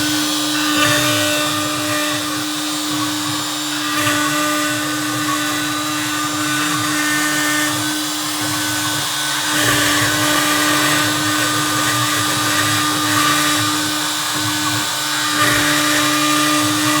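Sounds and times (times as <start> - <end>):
hiss of plastic cutting: 0.0 - 17.0
router motor hum: 0.0 - 17.0.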